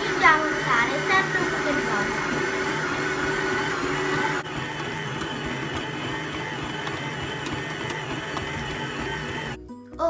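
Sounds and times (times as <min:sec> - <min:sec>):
stand mixer kneading dough: 0:00.0 - 0:09.6.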